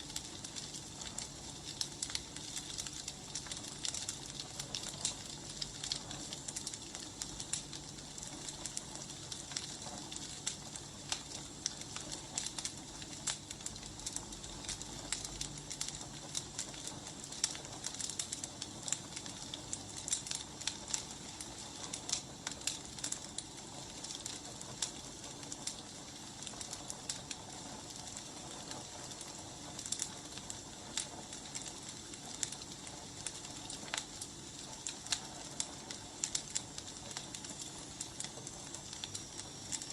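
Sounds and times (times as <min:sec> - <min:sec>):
fire hissing: 0:00.0 - 0:39.9
firewood crackling and popping: 0:00.0 - 0:39.9.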